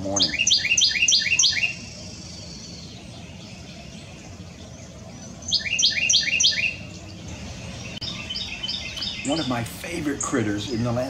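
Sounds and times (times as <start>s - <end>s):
wren singing: 0.0s - 11.0s.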